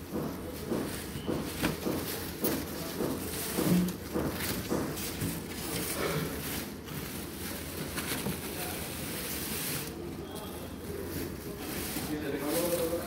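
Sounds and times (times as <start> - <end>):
scrapes and light knocks: 0.1 - 13.0
packaging rustling: 0.4 - 13.0.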